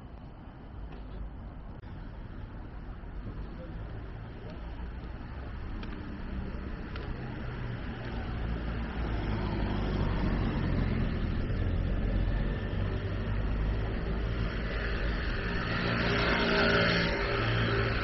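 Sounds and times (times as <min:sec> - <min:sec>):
passing traffic rush: 0:00.0 - 0:18.0
vehicle engine humming: 0:00.0 - 0:18.0.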